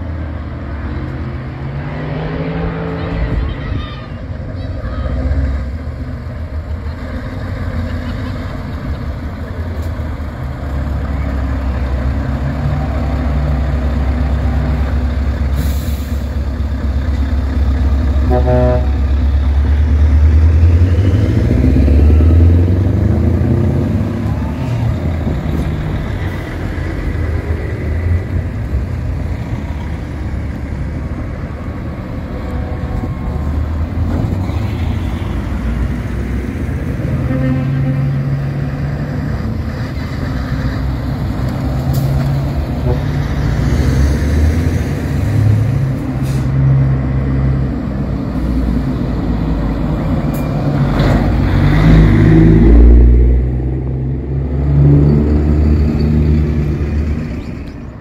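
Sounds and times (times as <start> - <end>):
diesel truck engines rumbling: 0.0 - 58.0.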